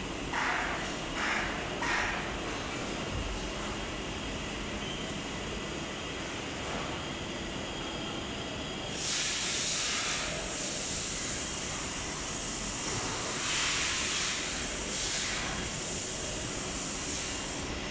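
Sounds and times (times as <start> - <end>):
industrial fans rushing hiss: 0.0 - 17.9.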